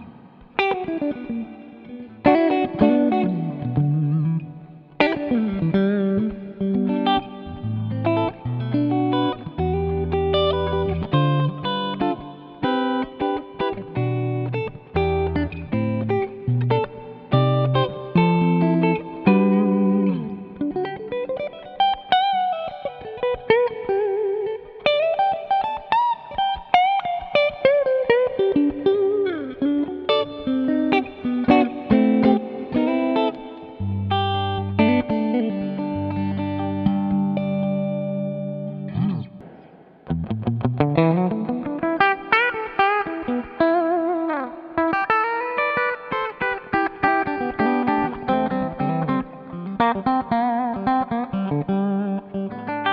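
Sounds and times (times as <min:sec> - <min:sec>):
electric guitar through an amp: 0:00.0 - 0:52.9.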